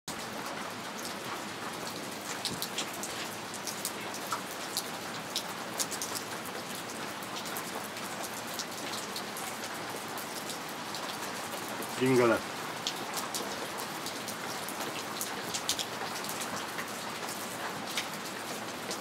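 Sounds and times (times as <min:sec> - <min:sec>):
steady rainfall: 0:00.1 - 0:19.0.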